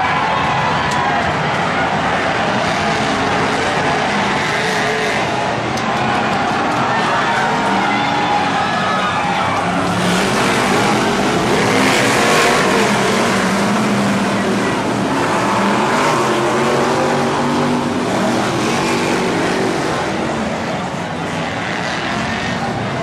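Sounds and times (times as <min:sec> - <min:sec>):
race car engines racing: 0:00.0 - 0:23.0.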